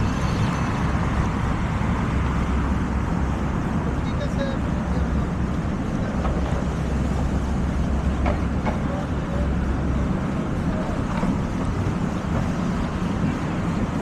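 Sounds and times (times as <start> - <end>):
deep engine hum: 0.0 - 14.0
street traffic: 0.0 - 14.0.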